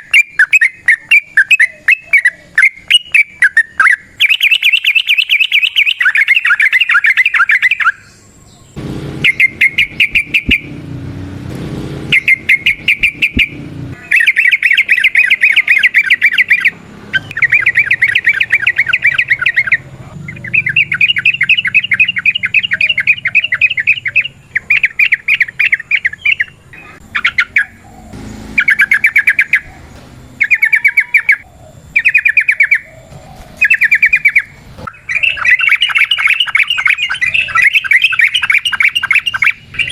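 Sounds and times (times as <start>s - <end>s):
bulbul singing rapid notes: 0.0s - 8.0s, 8.8s - 39.9s.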